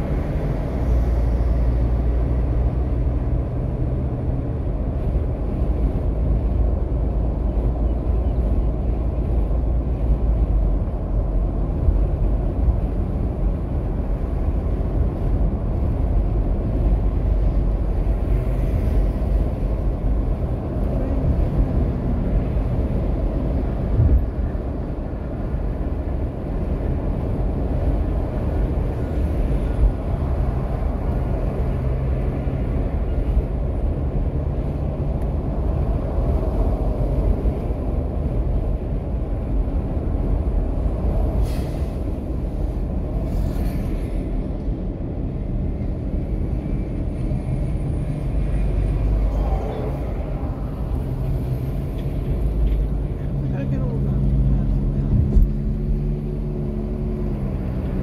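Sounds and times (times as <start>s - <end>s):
car engine rumble: 0.0s - 58.0s
tyres on road: 0.0s - 58.0s.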